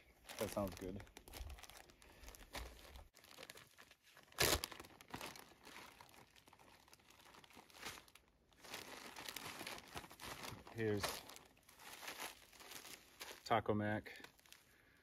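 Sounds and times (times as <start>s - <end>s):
plastic bags crinkling: 0.2s - 14.7s.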